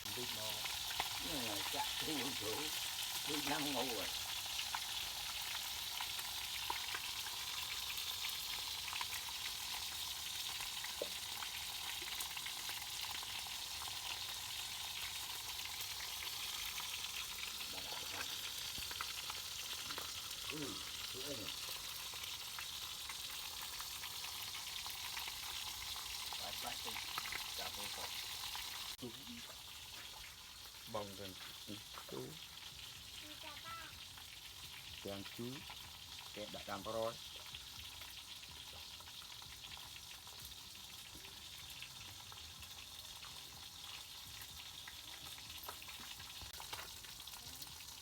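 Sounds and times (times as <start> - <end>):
food sizzling in hot oil: 0.0 - 48.0.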